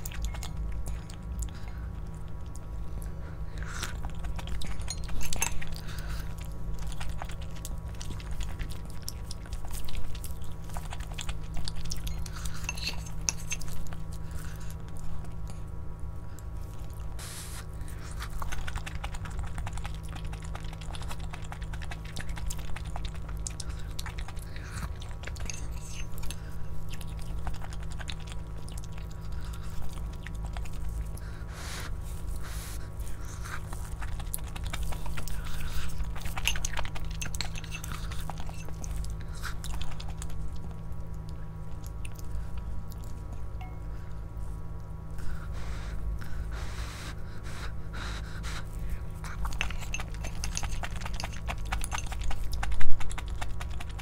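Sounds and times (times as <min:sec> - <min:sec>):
low hum: 0:00.0 - 0:54.0
person chewing food: 0:00.0 - 0:54.0.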